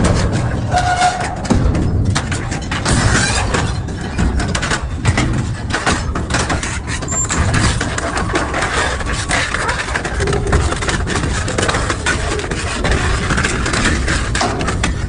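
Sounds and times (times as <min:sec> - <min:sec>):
metal cracking and crunching: 0:00.0 - 0:15.0
metal shredder rumbling: 0:00.0 - 0:15.0.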